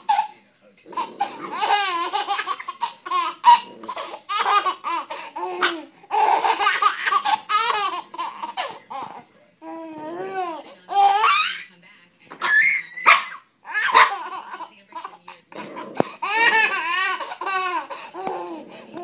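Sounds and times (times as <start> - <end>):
baby laughing and squealing: 0.0 - 11.7, 12.4 - 15.3, 16.0 - 19.0.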